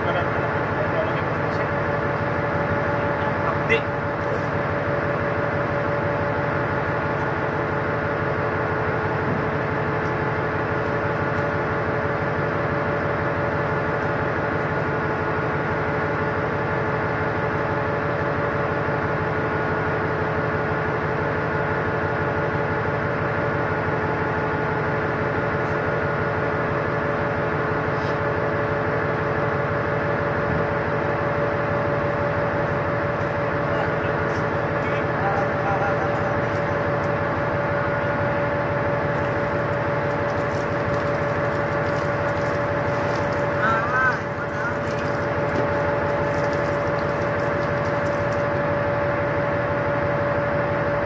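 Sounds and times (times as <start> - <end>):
ship machinery hum: 0.0 - 51.0.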